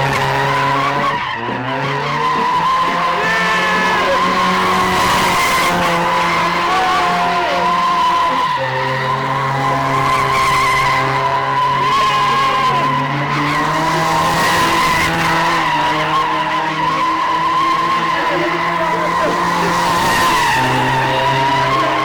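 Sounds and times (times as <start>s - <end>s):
car engine revving: 0.0s - 22.0s
tyres squealing: 0.0s - 22.0s.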